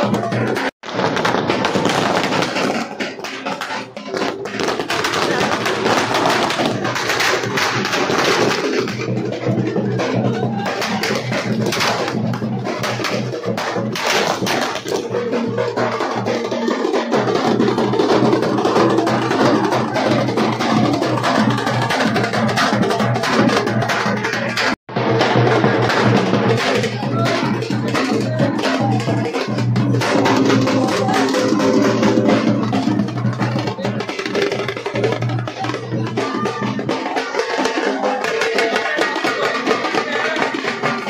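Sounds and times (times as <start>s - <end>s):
crowd voices: 0.0s - 41.0s
music with loud drums: 0.0s - 41.0s.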